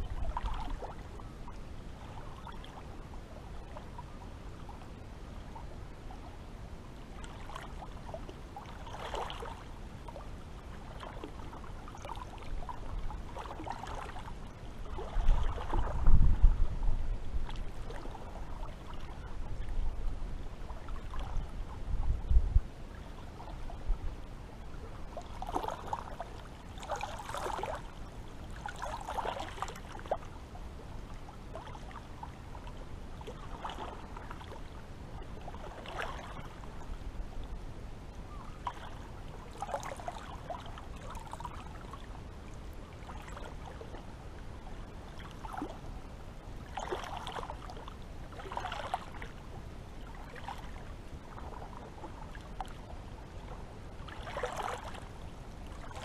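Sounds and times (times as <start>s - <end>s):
low rush of water: 0.0s - 56.0s
small waves lapping and splashing: 0.0s - 56.0s.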